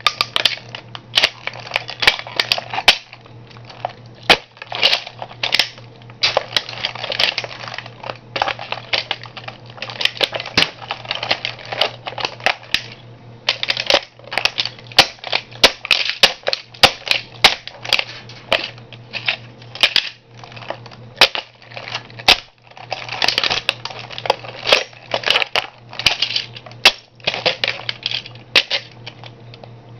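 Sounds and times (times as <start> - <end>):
toy car cracking under shoe: 0.0 - 29.2
steady low hum: 0.0 - 29.9.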